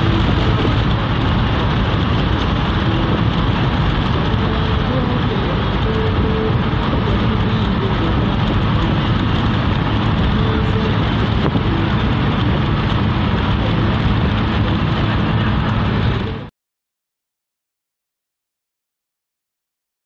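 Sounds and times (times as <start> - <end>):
low engine hum: 0.0 - 16.5
tyre and wind rush: 0.0 - 16.5.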